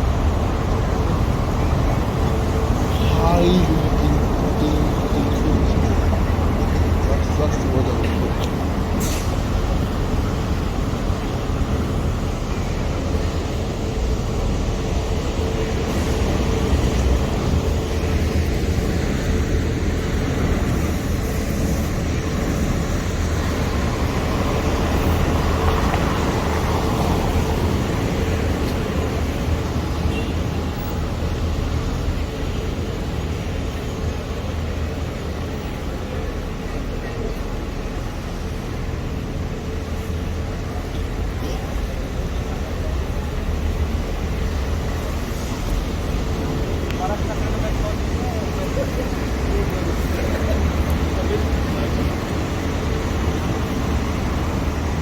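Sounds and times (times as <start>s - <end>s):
vehicle rumble: 0.0s - 55.0s.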